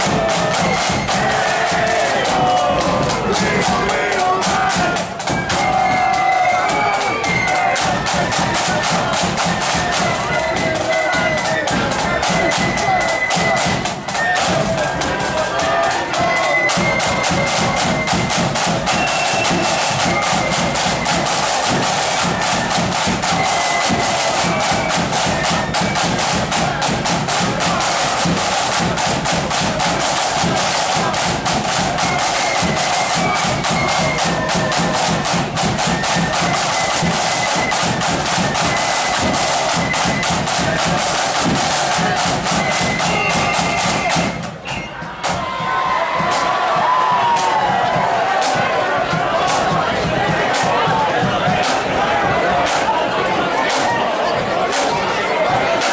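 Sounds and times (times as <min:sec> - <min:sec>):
flutes playing melody: 0:00.0 - 0:53.0
side-drum rolls and beats: 0:00.0 - 0:55.9.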